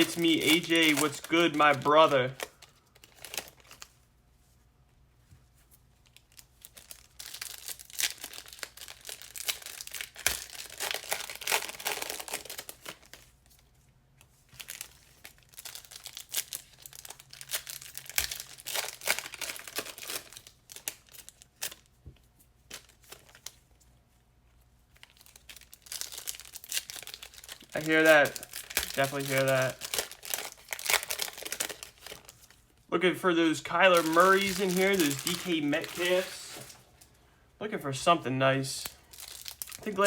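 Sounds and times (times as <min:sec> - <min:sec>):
plastic wrappers crinkling and tearing: 0:00.0 - 0:04.0, 0:06.0 - 0:13.6, 0:14.2 - 0:22.0, 0:22.6 - 0:23.8, 0:24.8 - 0:32.8, 0:33.5 - 0:37.1, 0:38.8 - 0:40.0.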